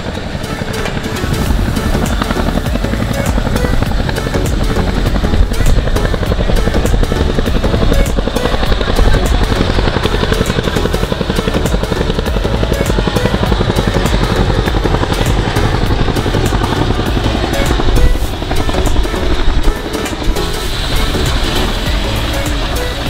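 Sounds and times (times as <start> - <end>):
helicopter rotors beating: 0.0 - 23.0.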